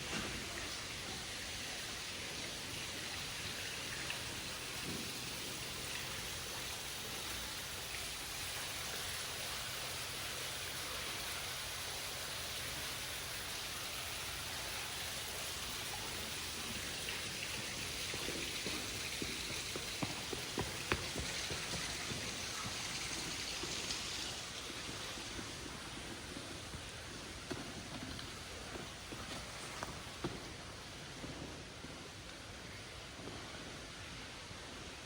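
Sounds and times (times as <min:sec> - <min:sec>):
hiss of falling water: 0:00.0 - 0:35.0.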